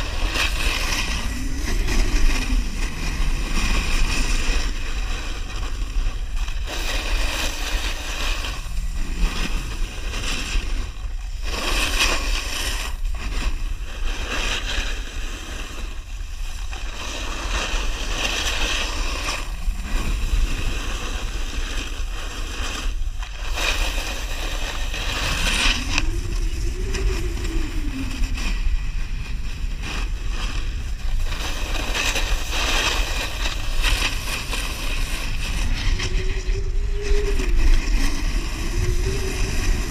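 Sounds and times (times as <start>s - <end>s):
snowboard edge scraping snow: 0.0s - 39.9s
wind buffeting microphone: 0.0s - 39.9s.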